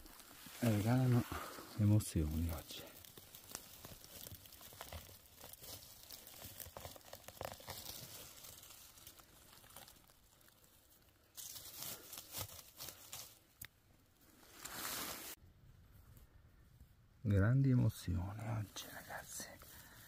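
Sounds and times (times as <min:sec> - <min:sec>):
dry grass and twigs crackling: 0:00.0 - 0:17.0, 0:18.0 - 0:20.0.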